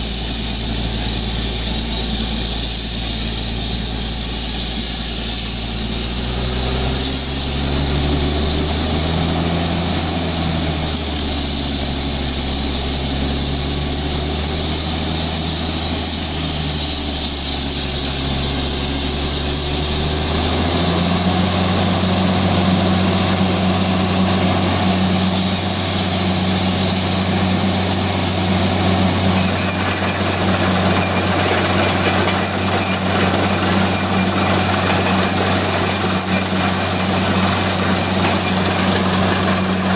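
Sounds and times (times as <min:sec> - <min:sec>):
drilling rig engine humming: 0:04.2 - 0:39.9.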